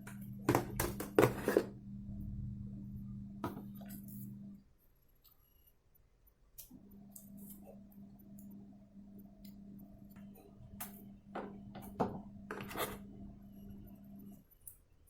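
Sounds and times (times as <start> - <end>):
steady low hum: 0.0 - 4.8, 6.7 - 14.6.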